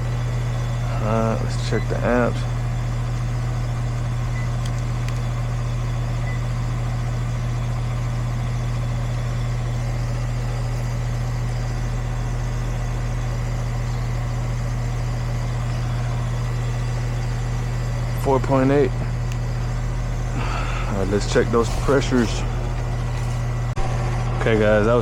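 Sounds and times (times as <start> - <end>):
air conditioner unit humming: 0.0 - 25.0.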